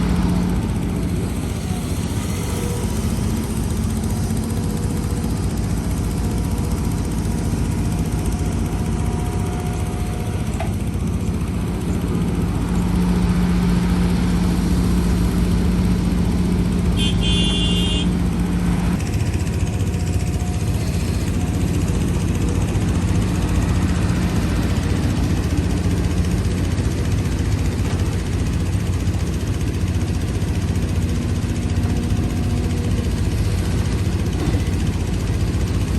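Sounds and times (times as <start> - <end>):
diesel machinery engine drone: 0.0 - 35.9.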